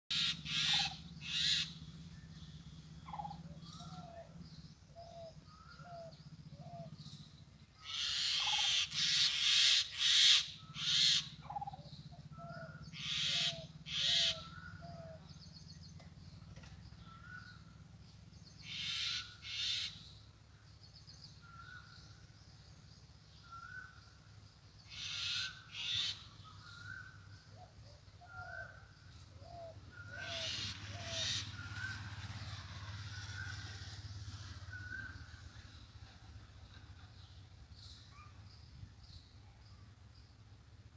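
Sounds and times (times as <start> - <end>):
birds calling harshly: 0.1 - 20.3, 23.4 - 39.8.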